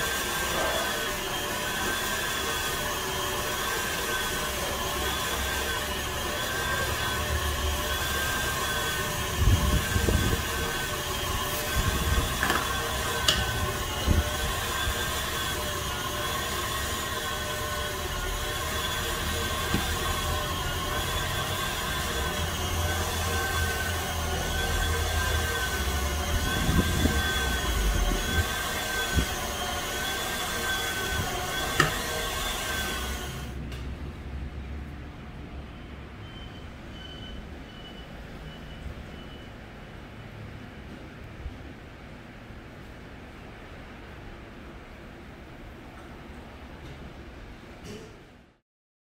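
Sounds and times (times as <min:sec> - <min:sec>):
machine hum with high whine: 0:00.0 - 0:48.6.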